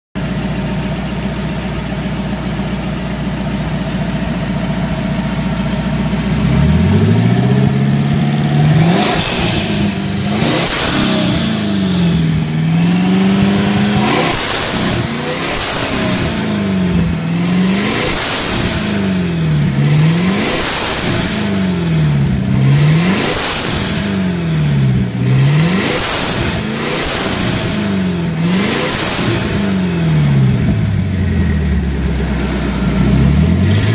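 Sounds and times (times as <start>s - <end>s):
racing engine idling and revving: 0.2s - 33.9s.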